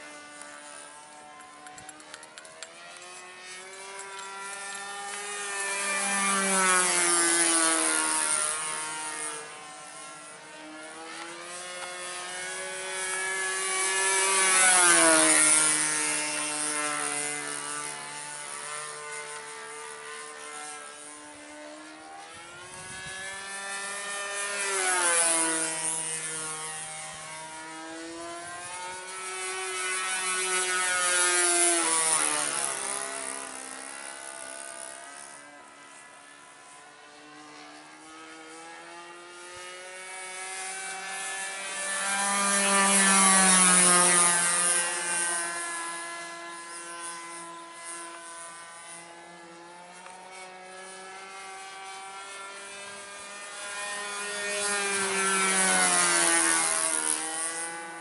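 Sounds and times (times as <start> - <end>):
model plane engine buzzing overhead: 0.0 - 58.0.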